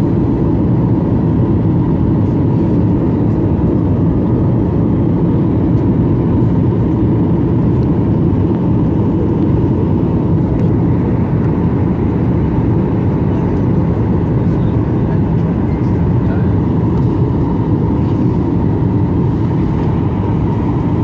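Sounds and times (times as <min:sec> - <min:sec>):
airliner engines droning: 0:00.0 - 0:21.0.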